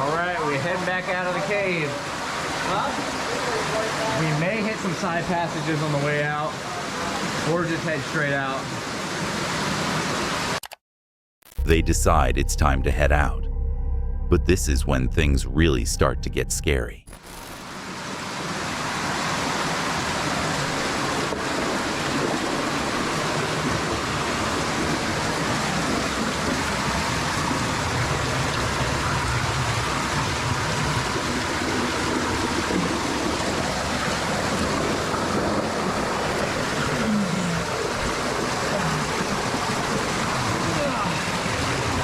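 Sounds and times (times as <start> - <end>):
rushing cave stream water: 0.0 - 10.6, 17.8 - 42.0.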